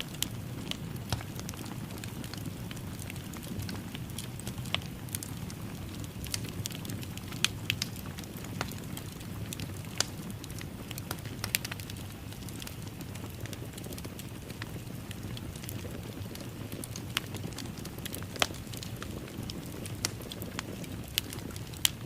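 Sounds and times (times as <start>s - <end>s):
low rumble of flames: 0.0s - 22.0s
wood fire crackling: 0.0s - 22.0s.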